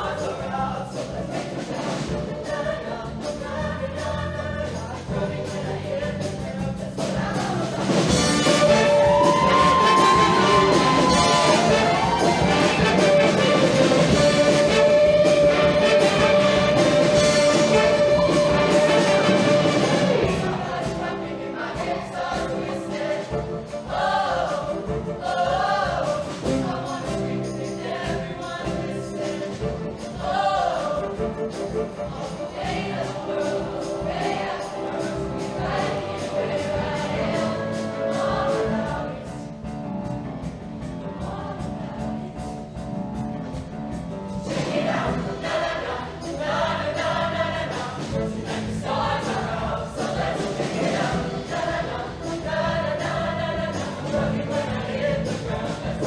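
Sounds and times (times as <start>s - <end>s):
choir singing: 0.0s - 56.0s
live band playing: 0.0s - 56.0s.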